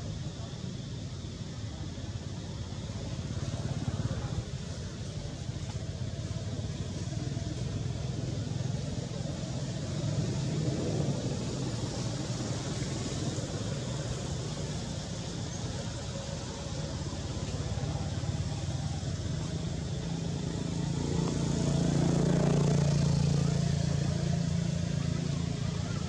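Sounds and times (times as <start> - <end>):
faint voices: 0.0 - 26.0
low outdoor rumble: 0.0 - 26.0.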